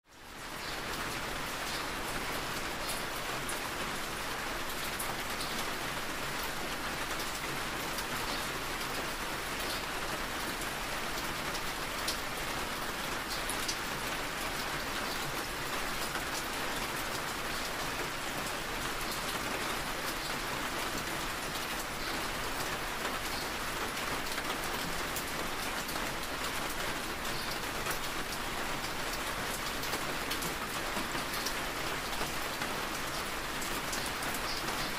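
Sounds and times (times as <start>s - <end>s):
rain on car windshield: 0.4s - 34.9s.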